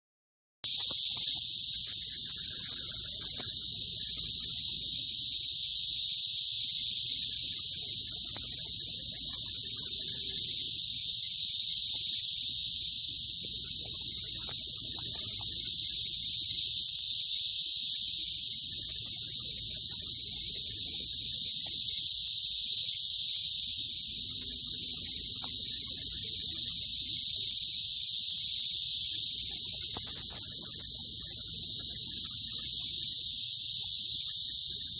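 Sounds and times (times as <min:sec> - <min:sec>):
cicadas buzzing: 0:00.7 - 0:34.9.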